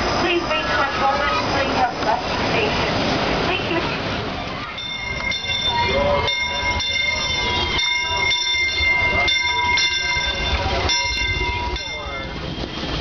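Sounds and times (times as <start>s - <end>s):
steam train rumbling: 0.0s - 13.0s.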